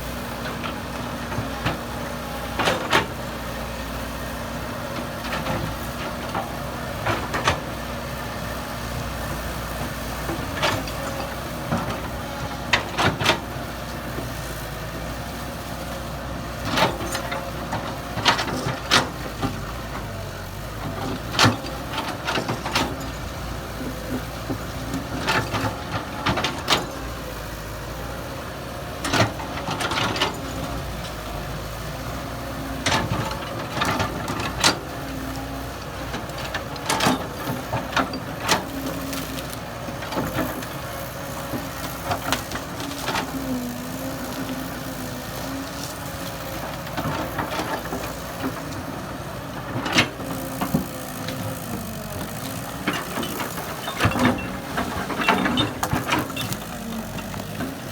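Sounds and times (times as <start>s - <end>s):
diesel machinery engine running: 0.0s - 57.9s.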